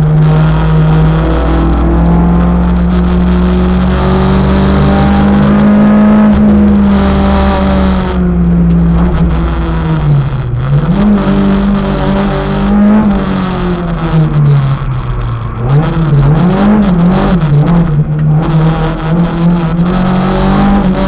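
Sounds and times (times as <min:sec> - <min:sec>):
car engine from inside cabin: 0:00.0 - 0:21.0.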